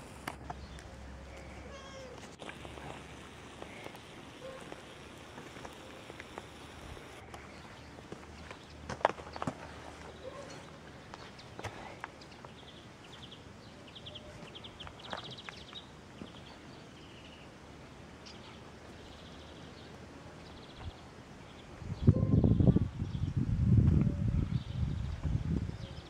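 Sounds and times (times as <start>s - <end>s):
small birds chirping: 0.0s - 23.4s.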